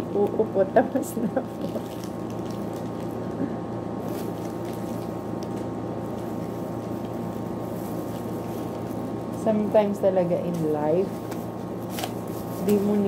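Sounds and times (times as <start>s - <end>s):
appliance motor hum: 0.0s - 13.0s.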